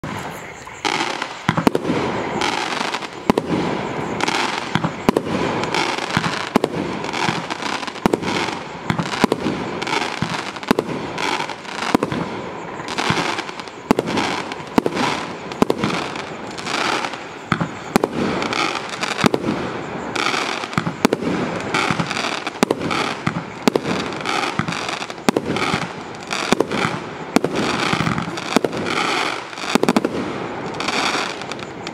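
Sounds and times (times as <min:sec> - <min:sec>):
firework crackle: 0:00.0 - 0:31.9
firework launches and bursts: 0:00.0 - 0:31.9.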